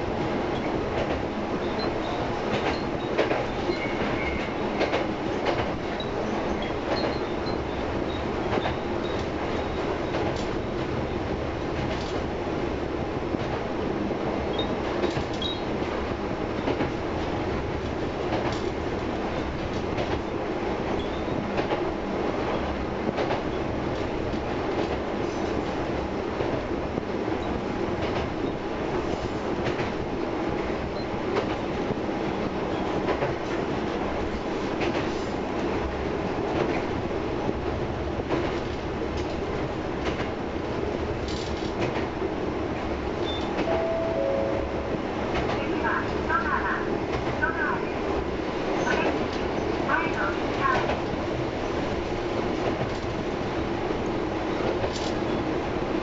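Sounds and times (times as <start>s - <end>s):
railcar running rumble: 0.0s - 56.0s.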